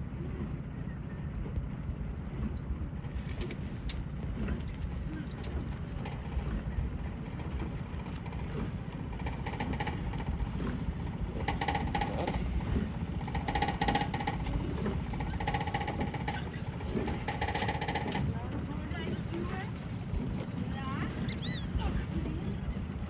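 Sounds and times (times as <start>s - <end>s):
outboard engine running: 0.0s - 23.0s
wind on microphone: 0.0s - 23.0s.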